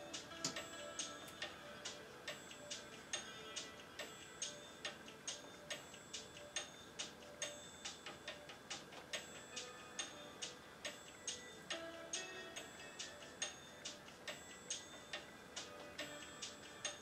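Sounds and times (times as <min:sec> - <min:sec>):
ticking beat: 0:00.0 - 0:17.0.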